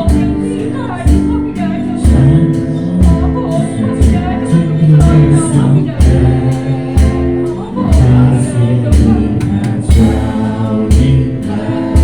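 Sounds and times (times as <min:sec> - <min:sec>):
steady drum beat: 0:00.0 - 0:12.0
worship singing: 0:00.0 - 0:12.0.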